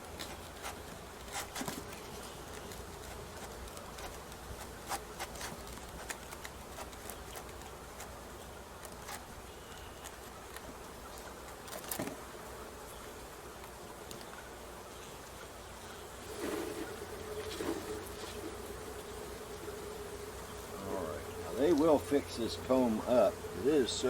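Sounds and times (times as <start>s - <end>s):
honey bees buzzing: 0.0s - 24.0s
rustle: 0.0s - 24.0s.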